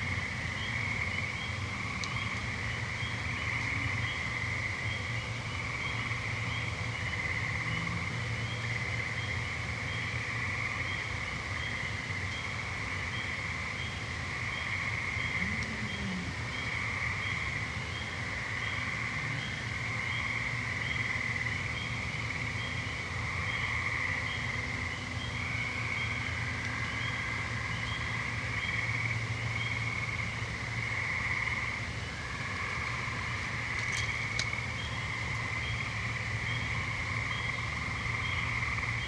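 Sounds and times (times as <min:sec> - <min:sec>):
low steady hum: 0:00.0 - 0:39.0
treefrogs trilling: 0:00.0 - 0:39.0.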